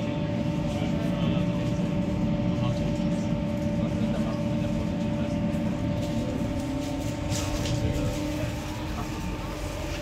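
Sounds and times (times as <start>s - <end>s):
electric hum: 0.0s - 10.0s
train wheels rumbling on rail: 0.0s - 10.0s.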